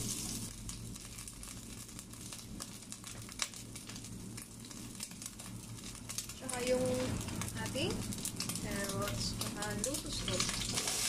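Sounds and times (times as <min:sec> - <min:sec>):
shrimp sizzling in pan: 0:00.0 - 0:11.0.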